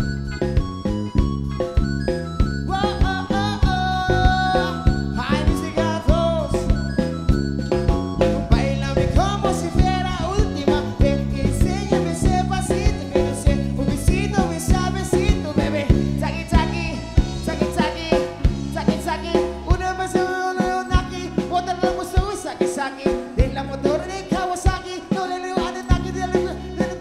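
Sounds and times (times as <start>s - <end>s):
latin pop band music: 0.0s - 27.0s
man singing: 2.7s - 7.0s, 8.4s - 27.0s.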